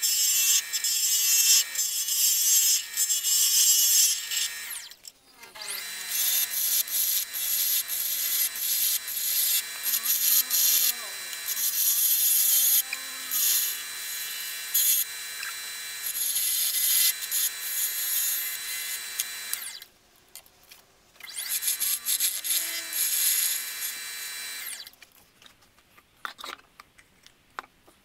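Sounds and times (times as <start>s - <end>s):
lathe tool scraping wood: 0.0s - 19.8s, 21.3s - 24.9s.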